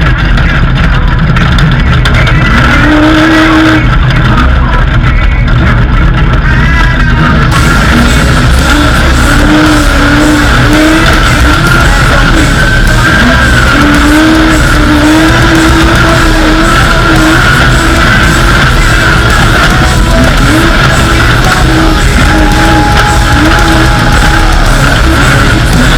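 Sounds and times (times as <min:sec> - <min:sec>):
heavy rock music: 0:00.0 - 0:25.9
race vehicle engine running hard: 0:00.0 - 0:25.9.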